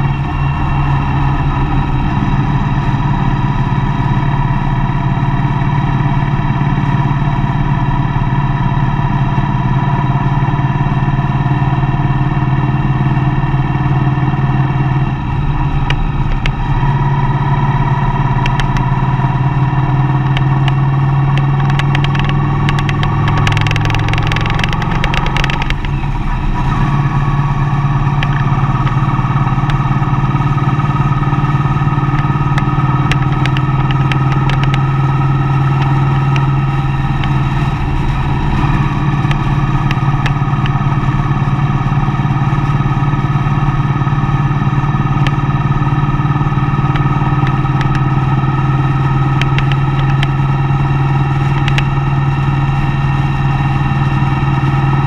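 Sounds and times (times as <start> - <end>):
road noise: 0.0 - 55.0
vehicle engine droning: 0.0 - 55.0.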